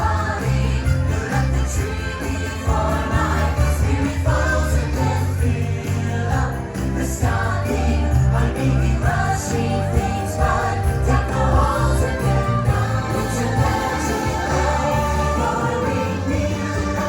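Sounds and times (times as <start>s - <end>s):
choir singing christmas music over loudspeakers: 0.0s - 17.0s
choir singing over loudspeakers: 0.0s - 17.0s.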